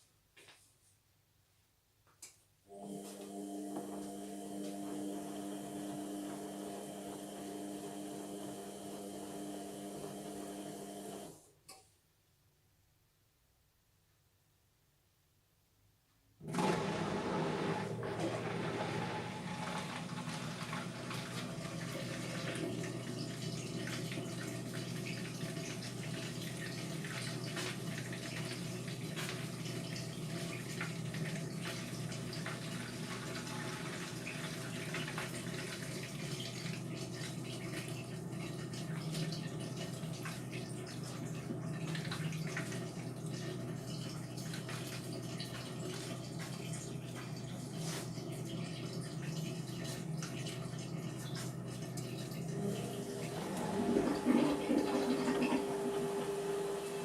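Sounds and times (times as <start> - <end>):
water sloshing in washing machine: 2.7 - 11.3, 16.4 - 57.0
washing machine low hum: 2.7 - 11.5, 16.4 - 57.0.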